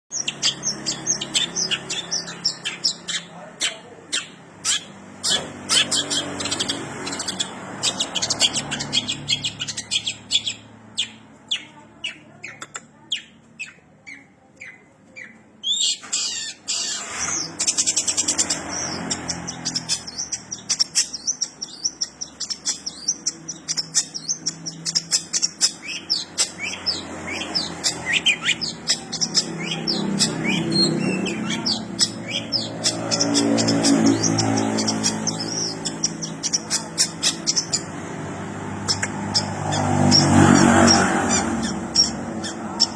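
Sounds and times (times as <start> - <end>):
bird singing rapid high chirps: 0.1 - 42.9.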